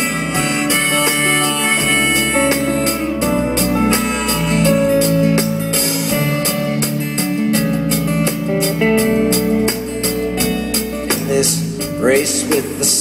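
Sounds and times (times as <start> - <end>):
acoustic guitar strumming: 0.0 - 13.0
drum kit steady beat: 0.0 - 13.0
held instrument notes: 0.0 - 13.0.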